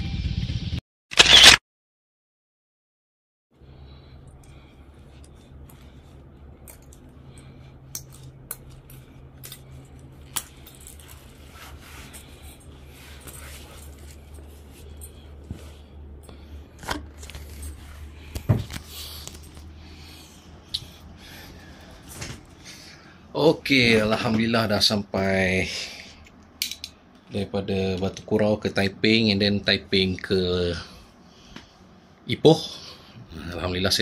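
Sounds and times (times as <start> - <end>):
steady low hum: 3.6 - 34.0.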